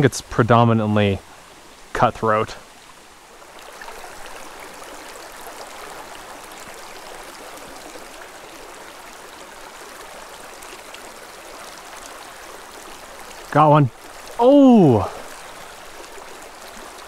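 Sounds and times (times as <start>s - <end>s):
creek babbling over rocks: 0.0s - 17.0s.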